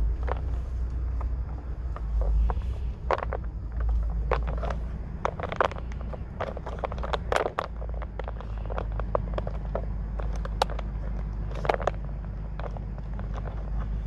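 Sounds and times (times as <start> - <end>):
car idling: 0.0 - 14.0.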